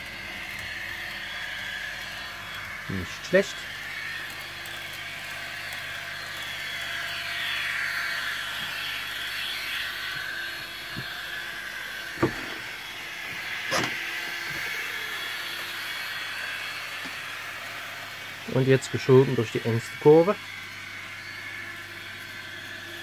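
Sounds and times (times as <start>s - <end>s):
model train motor whine: 0.0s - 23.0s.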